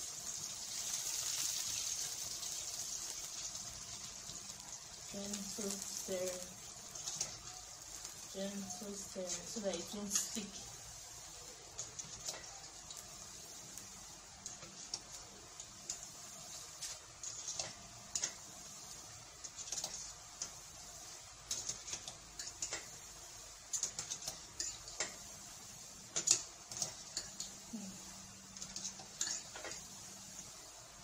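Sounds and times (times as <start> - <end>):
sizzling oil hiss: 0.0 - 31.0.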